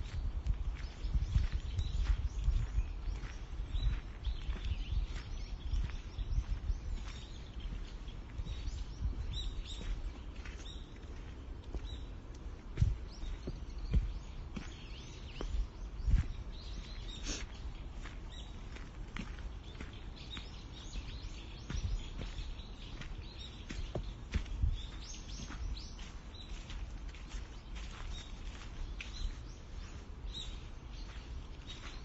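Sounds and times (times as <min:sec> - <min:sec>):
small birds chirping: 0:00.0 - 0:32.0
steady outdoor hiss: 0:00.0 - 0:32.0.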